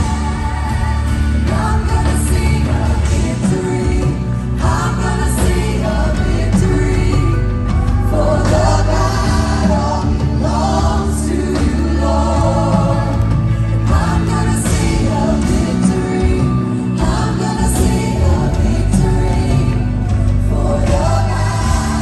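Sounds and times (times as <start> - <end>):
band with drums and bass: 0.0 - 22.0
choir singing: 0.0 - 22.0.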